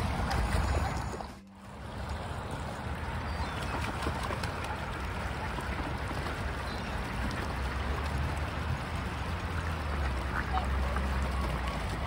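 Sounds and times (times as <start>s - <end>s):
birds splashing in water: 0.0s - 12.0s.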